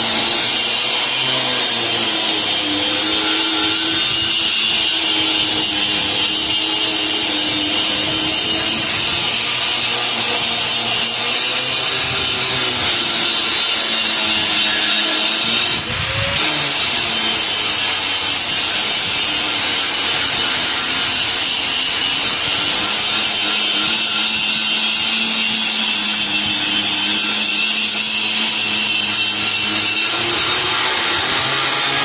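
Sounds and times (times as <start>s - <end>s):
angle grinder grinding steel: 0.0s - 32.0s.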